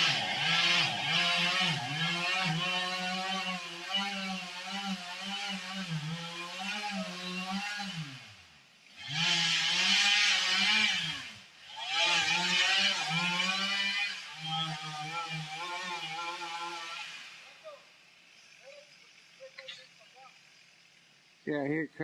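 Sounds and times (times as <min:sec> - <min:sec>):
chainsaw cutting at high revs: 0:00.0 - 0:21.3.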